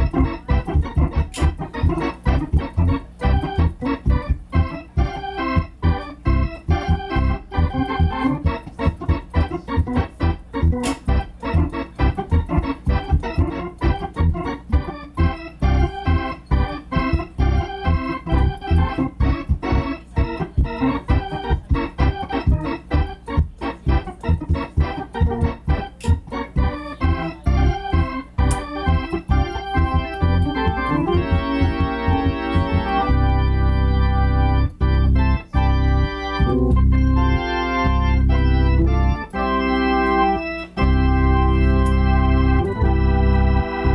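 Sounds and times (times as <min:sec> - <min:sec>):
organ playing chords: 0:00.0 - 0:43.9.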